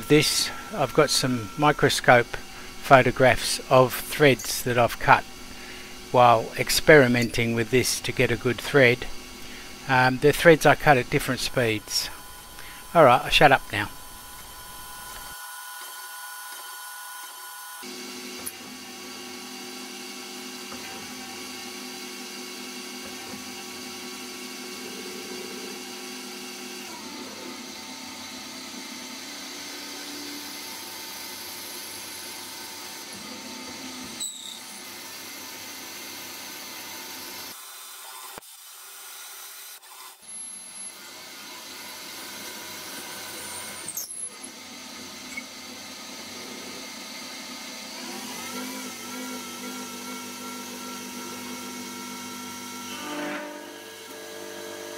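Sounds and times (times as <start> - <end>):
lathe motors whining: 0.0 - 54.9.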